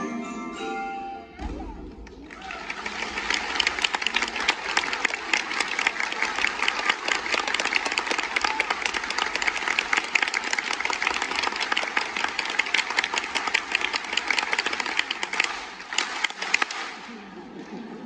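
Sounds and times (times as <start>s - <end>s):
audience applauding: 2.0s - 17.7s.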